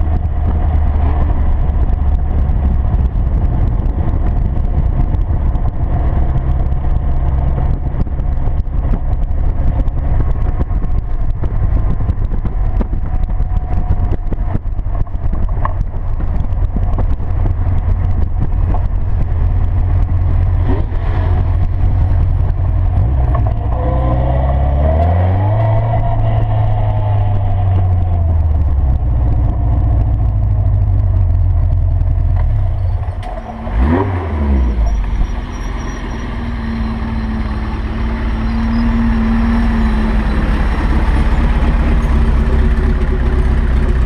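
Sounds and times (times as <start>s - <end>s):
sports car engine running: 0.0s - 44.0s.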